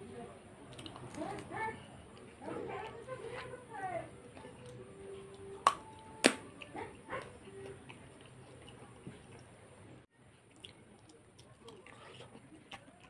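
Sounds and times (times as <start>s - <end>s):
man chewing food: 0.6s - 13.0s.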